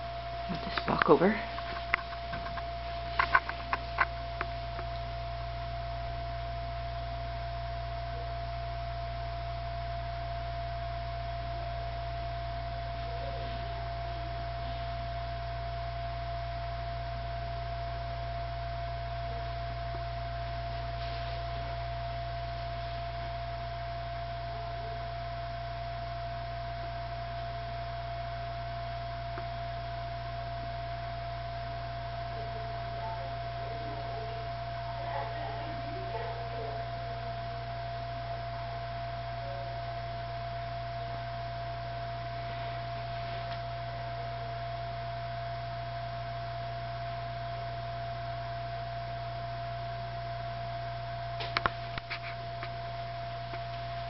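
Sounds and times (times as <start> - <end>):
constant steady tone: 0.0 - 54.0
steady hum: 0.0 - 54.0.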